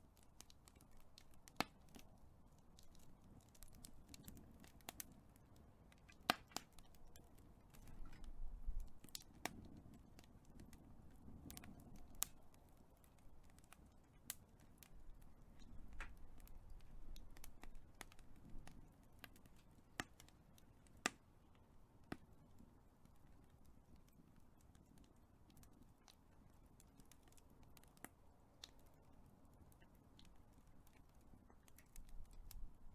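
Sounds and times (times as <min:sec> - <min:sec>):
fire crackling and popping: 0:00.0 - 0:32.9
low rumble of flames: 0:00.0 - 0:32.9.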